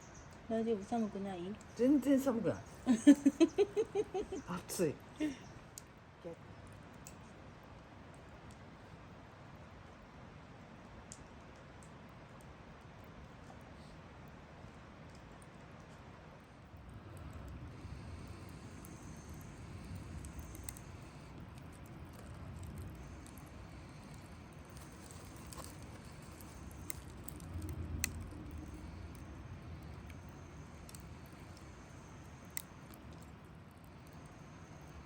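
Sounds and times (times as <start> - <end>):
campfire rumble: 0.0 - 35.0
sharp fire crackles: 0.2 - 35.0.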